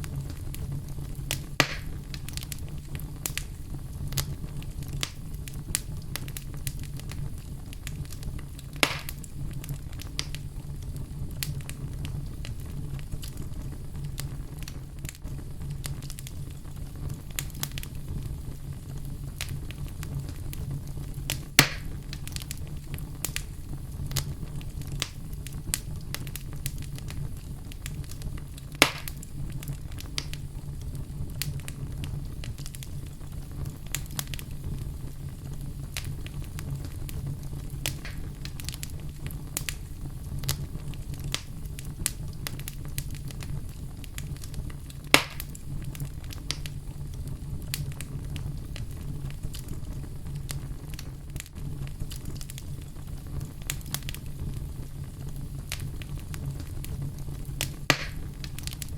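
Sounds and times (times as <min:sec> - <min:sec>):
fire popping: 0:00.0 - 0:58.9
fireplace fire crackling: 0:00.0 - 0:58.9.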